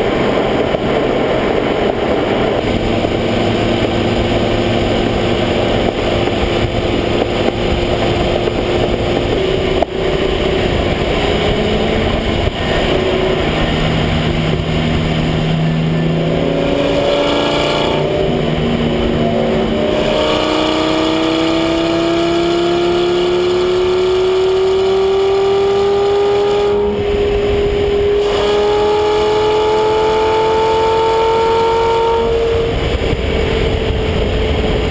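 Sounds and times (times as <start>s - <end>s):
car engine and exhaust: 0.0s - 34.9s.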